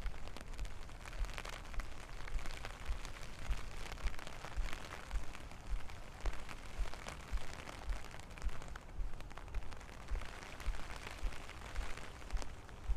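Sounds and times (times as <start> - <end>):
footsteps in rain: 0.0 - 12.9
rain pattering: 0.0 - 12.9.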